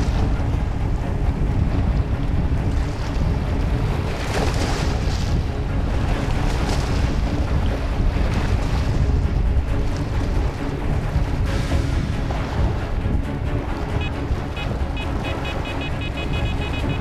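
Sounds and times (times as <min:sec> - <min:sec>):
lake water lapping: 0:00.0 - 0:17.0
wind buffeting microphone: 0:00.0 - 0:17.0.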